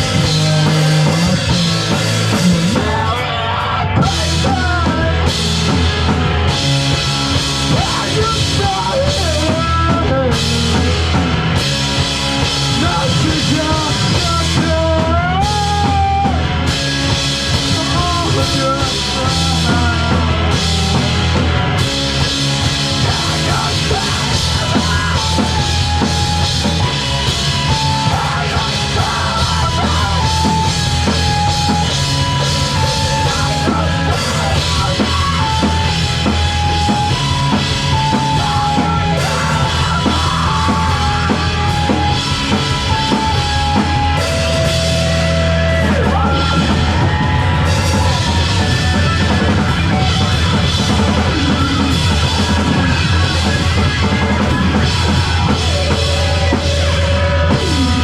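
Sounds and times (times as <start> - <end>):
drum kit beat: 0.0 - 58.0
live rock band playing: 0.0 - 58.0.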